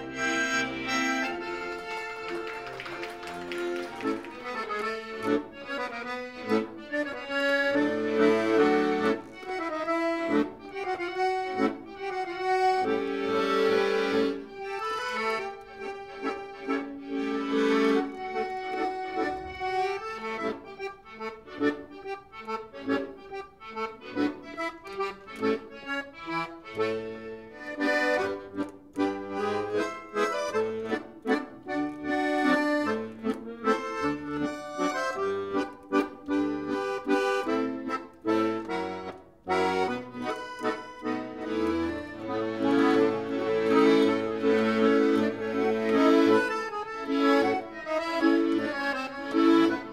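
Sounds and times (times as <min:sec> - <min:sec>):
piano accordion playing: 0:00.0 - 0:49.9.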